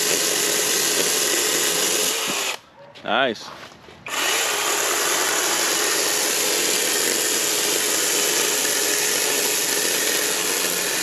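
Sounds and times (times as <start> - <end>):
electric chainsaw cutting a log: 0.0 - 2.6, 4.1 - 11.0.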